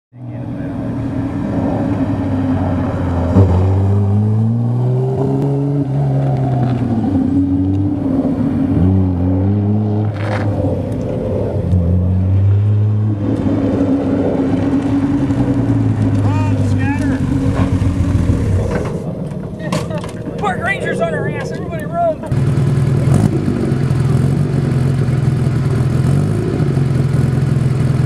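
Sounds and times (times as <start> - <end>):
race car engine revving: 0.2 - 28.0.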